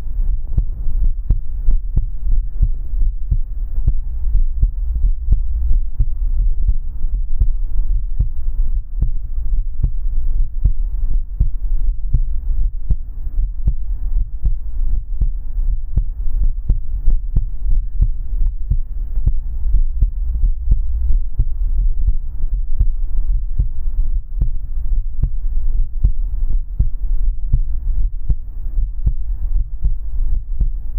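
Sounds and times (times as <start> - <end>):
heartbeat thumps: 0.0 - 30.9
steady low hum: 0.0 - 30.9.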